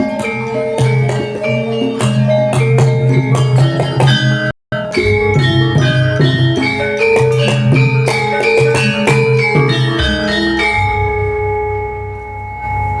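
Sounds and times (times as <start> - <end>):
gamelan metallophones playing: 0.0 - 13.0.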